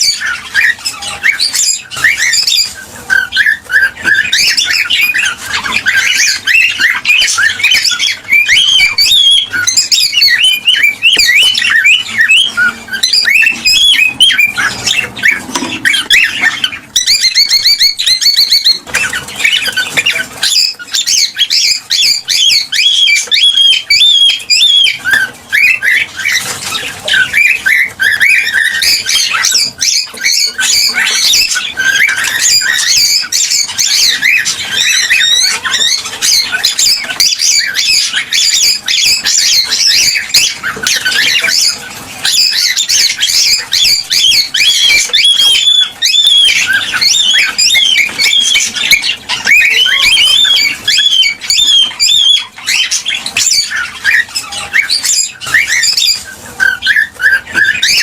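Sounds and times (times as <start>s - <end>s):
cockatiels chirping and squawking: 0.0s - 58.0s.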